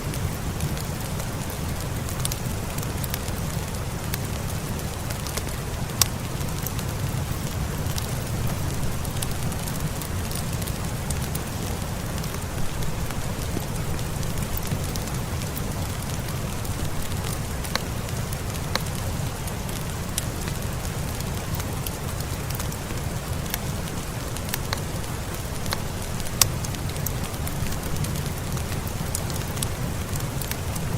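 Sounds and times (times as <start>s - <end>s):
steady rain: 0.0s - 30.9s
wood fire crackling: 0.0s - 30.9s.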